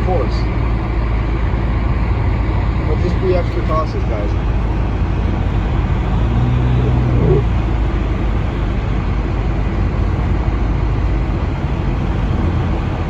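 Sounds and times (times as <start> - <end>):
engine hum: 0.0 - 13.0
tyre and road noise: 0.0 - 13.0.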